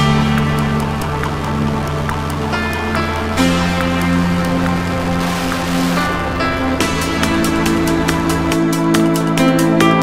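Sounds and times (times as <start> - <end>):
music with chords and light beat: 0.0 - 10.0.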